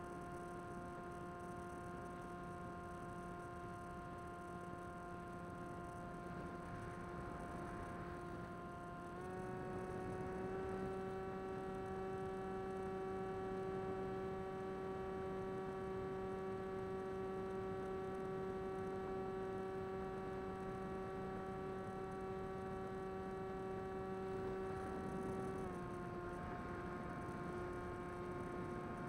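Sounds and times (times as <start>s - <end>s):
electric motor and propeller whine: 0.0s - 29.0s.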